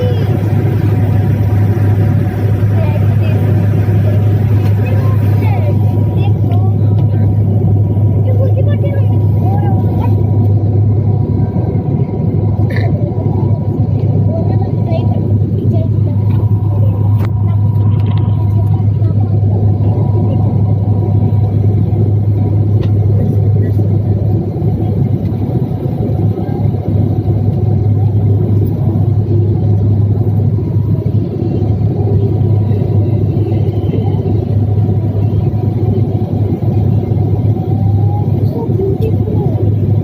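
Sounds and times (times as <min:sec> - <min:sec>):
constant low hum: 0:00.0 - 0:40.0
vehicle running rumble: 0:00.0 - 0:40.0.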